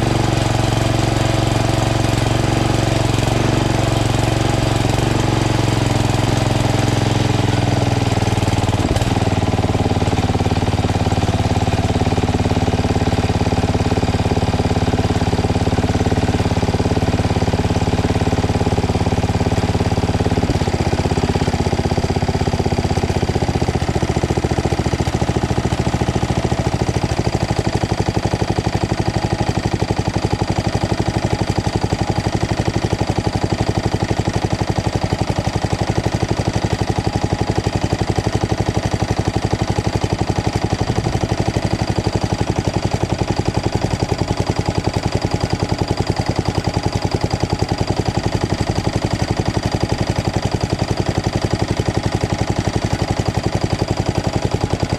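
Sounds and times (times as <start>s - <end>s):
lawn tractor engine running: 0.0s - 54.9s.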